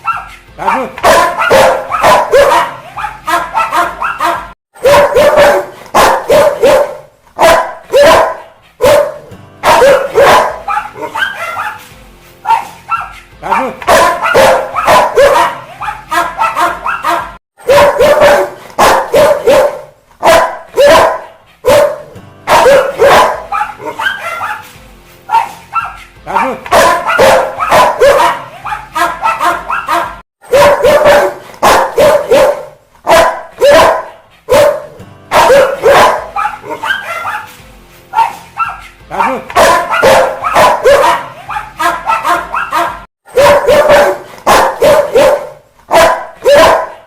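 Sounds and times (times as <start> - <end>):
dog barking aggressively: 0.0 - 11.8, 12.5 - 24.6, 25.3 - 37.5, 38.2 - 47.0.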